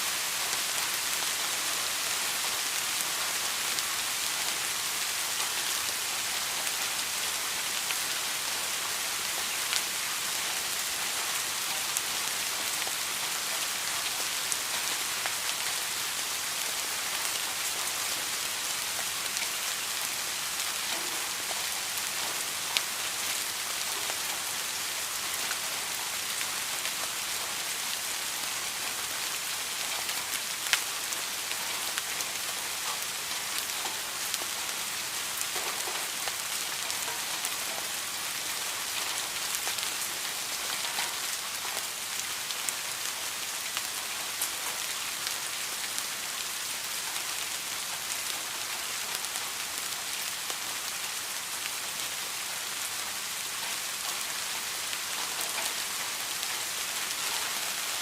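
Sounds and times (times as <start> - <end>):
rain hissing on a surface: 0.0 - 58.0.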